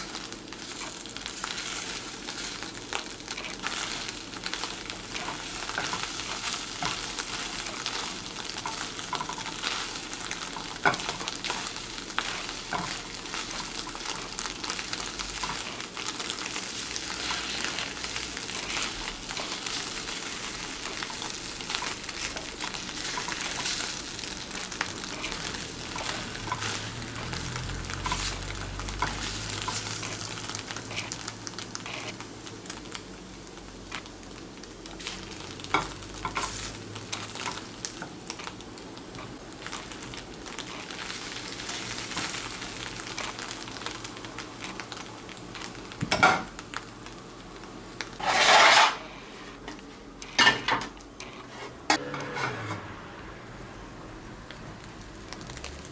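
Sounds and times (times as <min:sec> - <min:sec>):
oil crackling and popping: 0:00.0 - 0:49.0, 0:54.1 - 0:55.9
eggs sizzling in hot oil: 0:00.0 - 0:55.9.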